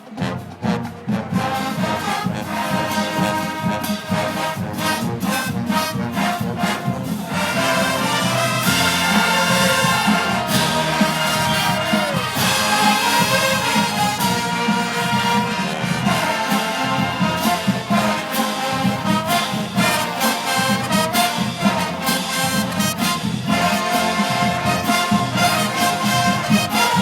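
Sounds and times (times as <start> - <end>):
marching band playing: 0.0 - 27.0
sharp drum strokes: 0.0 - 27.0
trombone slide: 0.0 - 27.0.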